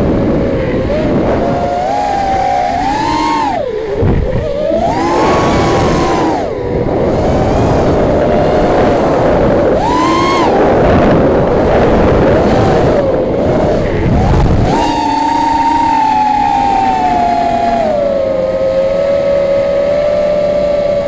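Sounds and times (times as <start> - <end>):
drone motors whining: 0.0 - 21.0
wind rush on microphone: 0.0 - 21.0.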